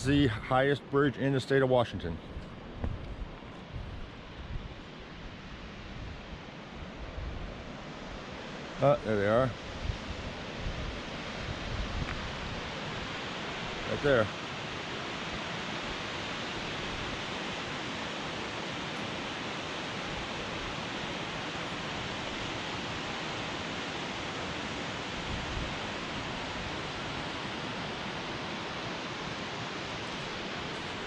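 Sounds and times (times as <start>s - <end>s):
waterfall rushing: 4.8s - 31.0s.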